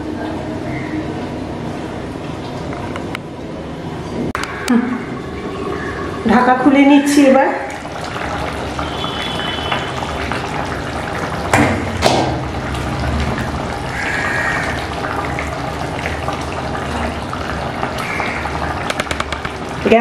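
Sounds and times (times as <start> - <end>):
curry bubbling: 1.0 - 20.0.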